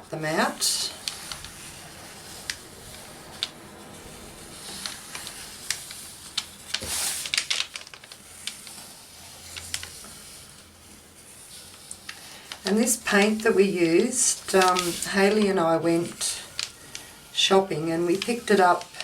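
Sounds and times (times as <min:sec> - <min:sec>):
paper rustling: 0:00.3 - 0:19.0.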